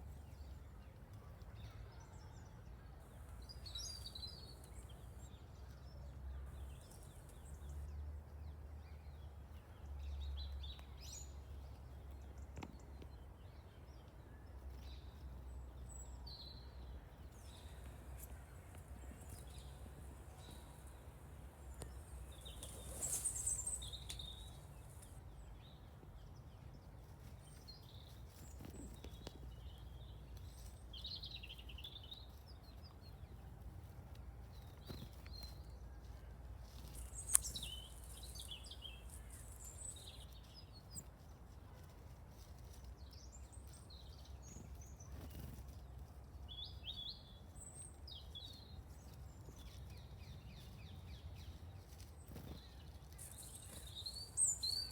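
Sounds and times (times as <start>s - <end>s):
small songbirds chirping: 0.0s - 54.9s.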